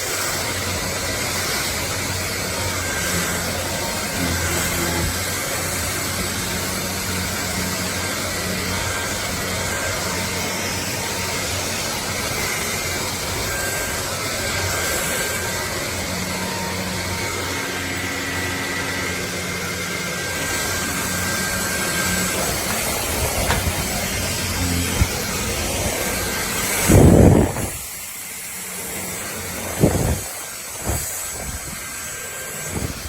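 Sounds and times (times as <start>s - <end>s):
stick vacuum running: 0.0s - 33.0s.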